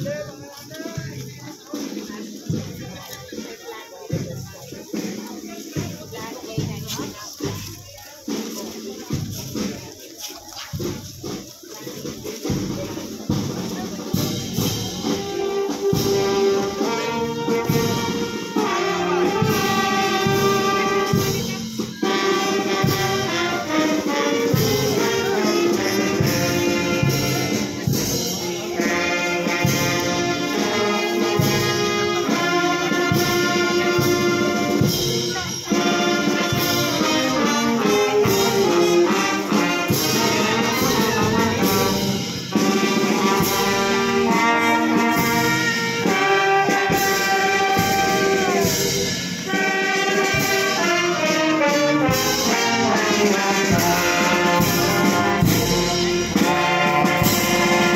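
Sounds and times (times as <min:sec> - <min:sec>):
marching brass band playing: 0:00.0 - 0:57.9
steady drum beat: 0:00.0 - 0:57.9.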